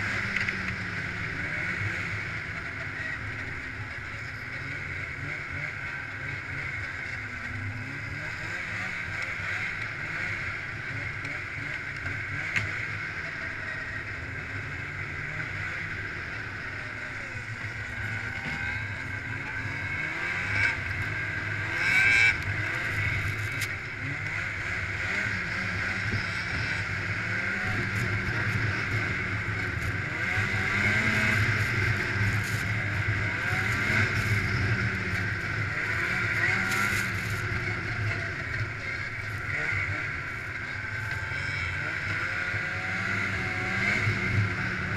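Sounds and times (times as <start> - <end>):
snowmobile engine: 0.0 - 44.9.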